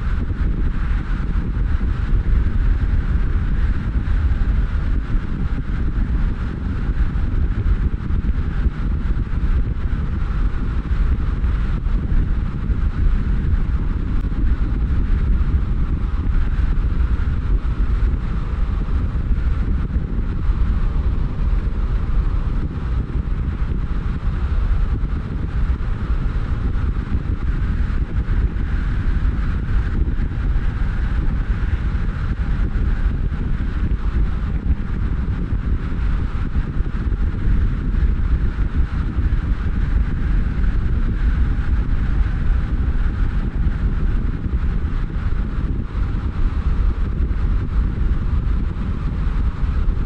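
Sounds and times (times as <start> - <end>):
car tyre and engine rumble: 0.0 - 50.0
wind noise: 0.0 - 50.0.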